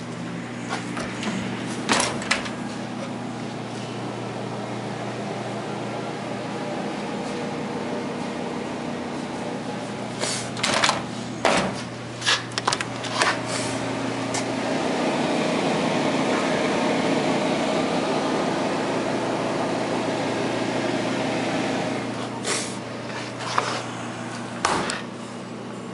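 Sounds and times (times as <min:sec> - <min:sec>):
refrigerator hum and fan noise: 0:00.0 - 0:25.9.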